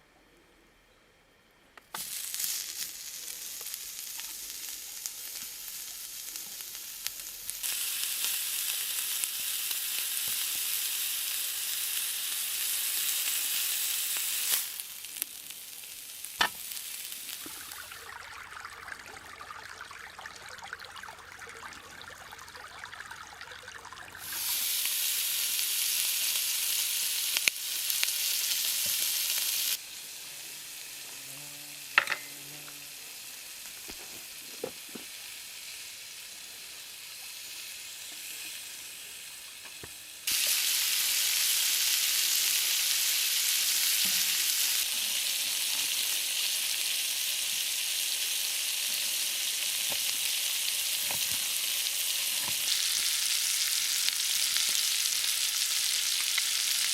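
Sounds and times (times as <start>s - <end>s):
food sizzling in a pan: 1.9s - 56.9s.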